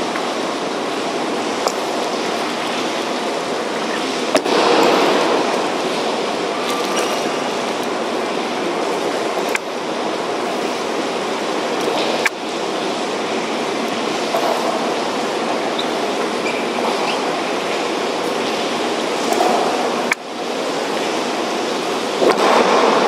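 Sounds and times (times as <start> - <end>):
rain falling with wind: 0.0 - 23.0.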